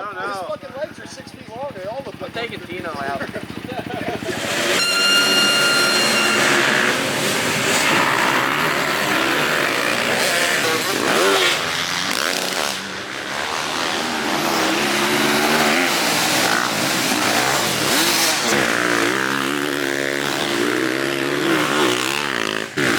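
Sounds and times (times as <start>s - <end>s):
small motorbike engines revving: 0.0s - 22.9s.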